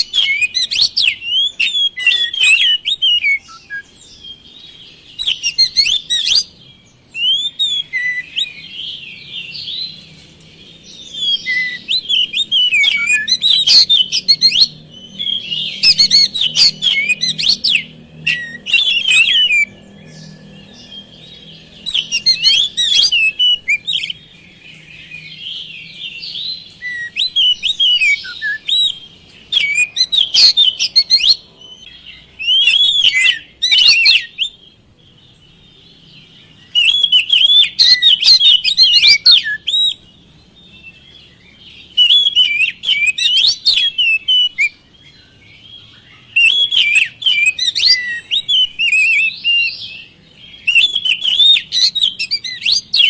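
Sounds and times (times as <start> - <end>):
magpie-robin whistles and chirps: 0.0 - 53.0
soft bird twittering: 0.0 - 53.0.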